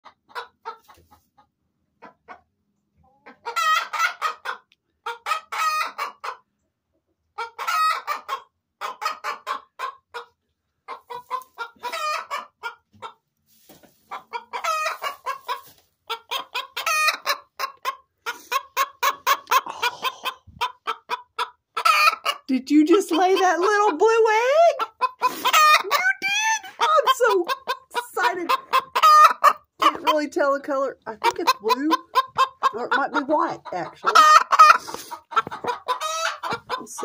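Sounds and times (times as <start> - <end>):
hen clucking and squawking: 0.0 - 6.5, 7.3 - 37.0.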